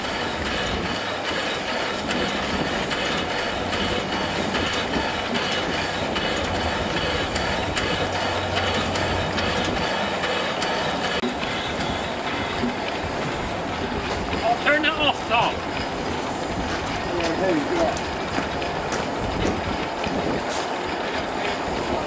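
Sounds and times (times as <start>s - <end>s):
steam engine mechanical clatter: 0.0s - 22.0s
steam hissing: 0.0s - 22.0s.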